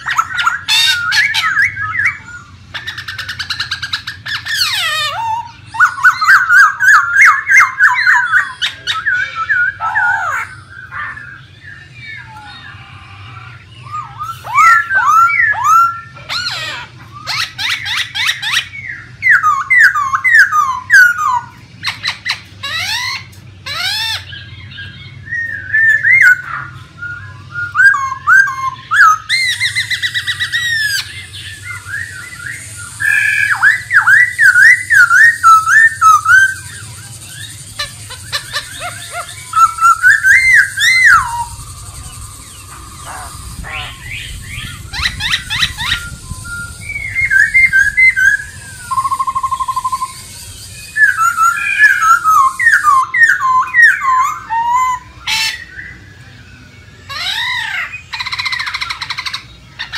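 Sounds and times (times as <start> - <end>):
bird singing whistled phrases: 0.0 - 13.0, 13.6 - 59.9.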